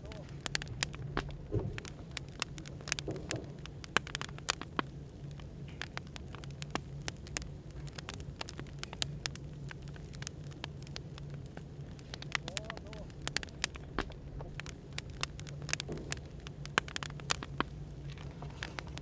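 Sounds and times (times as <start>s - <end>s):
cafe background hum: 0.0s - 19.0s
wood fire crackling: 0.0s - 19.0s.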